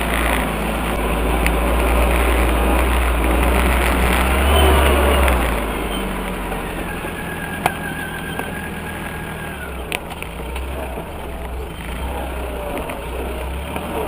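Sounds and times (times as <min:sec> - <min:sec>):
off-road vehicle engine running: 0:00.0 - 0:14.0.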